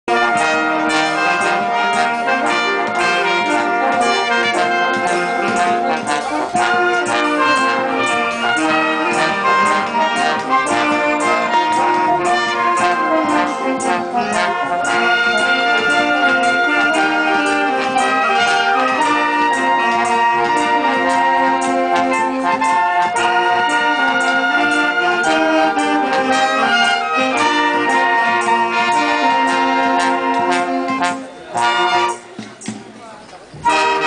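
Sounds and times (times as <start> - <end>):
wind band playing: 0.0 - 32.8, 33.6 - 34.0.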